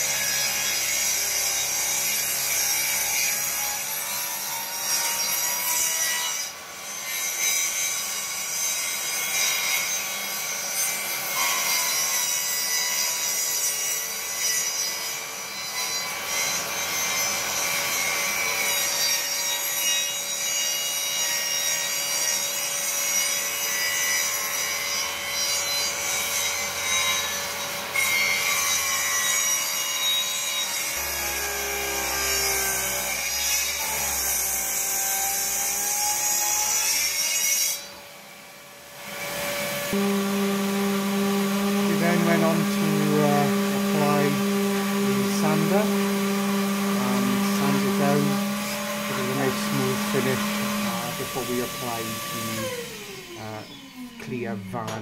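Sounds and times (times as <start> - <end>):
circular saw cutting wood: 0.0 - 55.0.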